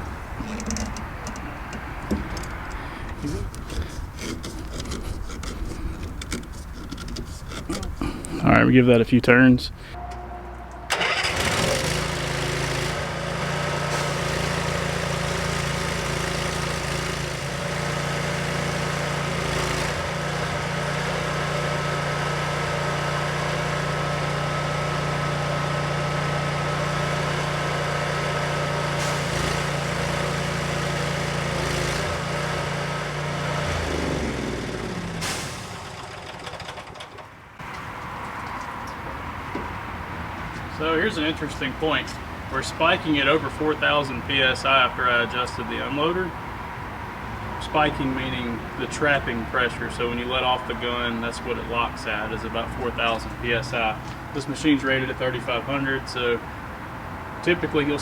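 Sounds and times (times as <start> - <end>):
pressure washer engine and pump running: 10.9 - 58.0.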